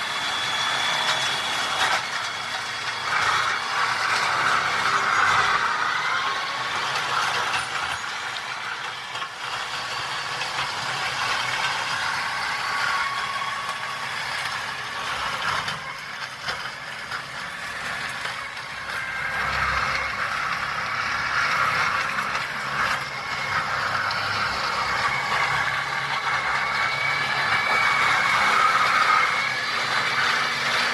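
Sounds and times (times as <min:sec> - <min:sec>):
brush clearing machine engine: 0:00.0 - 0:30.9.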